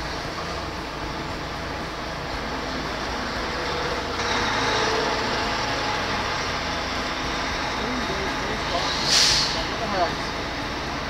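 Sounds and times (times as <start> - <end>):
car engine idling: 0.0 - 11.0
rushing noise with faint whine: 0.0 - 11.0.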